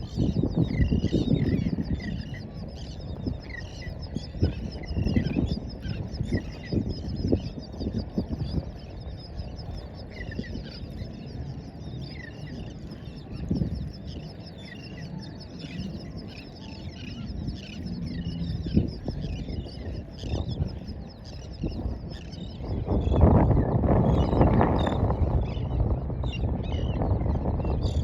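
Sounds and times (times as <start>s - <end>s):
flock of birds chirping: 0.0s - 28.0s
wind: 0.0s - 28.0s.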